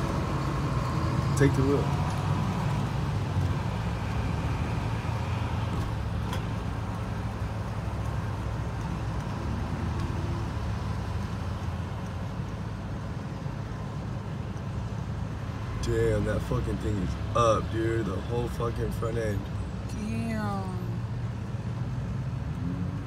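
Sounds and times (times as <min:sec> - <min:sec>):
car engine hum: 0:00.0 - 0:23.0
road noise: 0:00.0 - 0:23.0.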